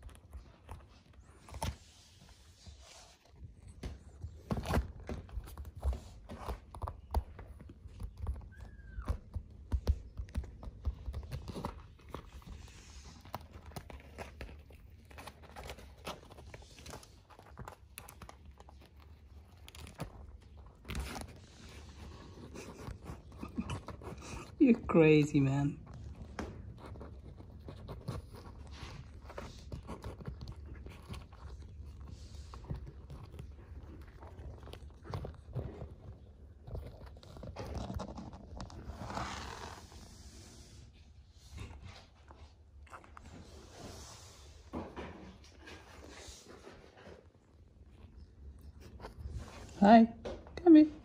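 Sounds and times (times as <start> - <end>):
kitten claws scratching fabric: 0.0 - 50.0.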